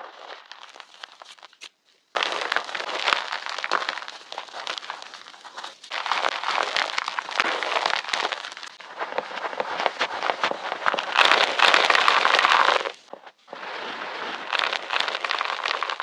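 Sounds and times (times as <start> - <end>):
chalk crunching and crumbling: 0.0 - 16.0.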